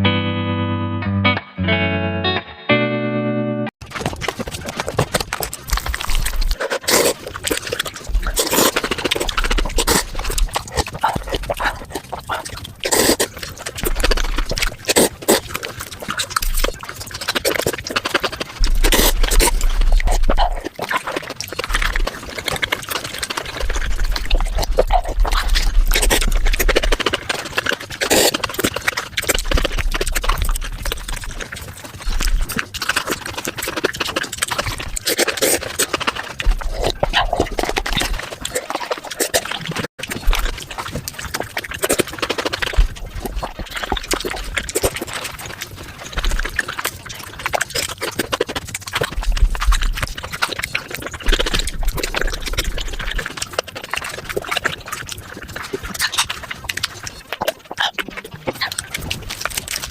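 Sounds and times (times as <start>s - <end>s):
sped-up chewing and slurping: 3.8s - 59.9s.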